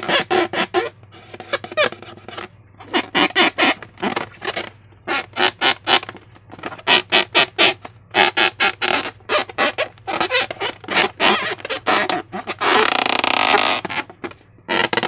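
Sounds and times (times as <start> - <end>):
slime squelching and squeaking: 0.0 - 15.0.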